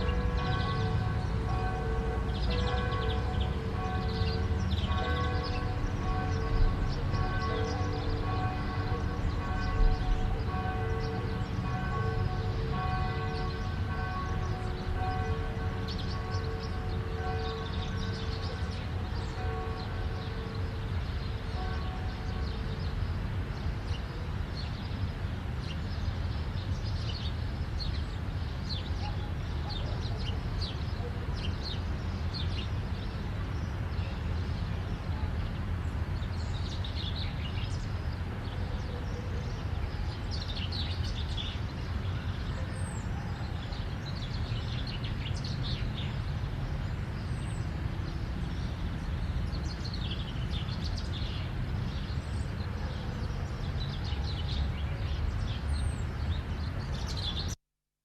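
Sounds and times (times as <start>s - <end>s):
distant highway traffic rumble: 0.0s - 57.6s.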